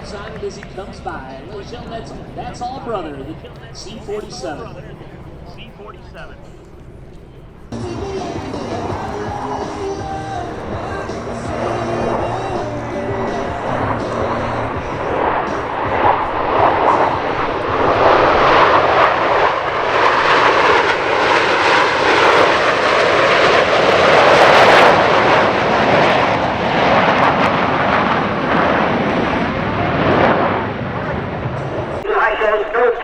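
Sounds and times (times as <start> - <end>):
airplane flying by: 0.0 - 33.0.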